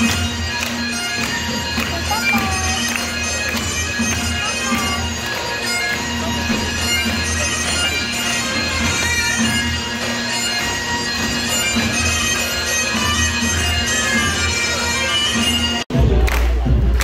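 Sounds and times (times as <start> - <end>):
bagpipe chanter melody: 0.0 - 15.9
bagpipe drones: 0.0 - 15.9.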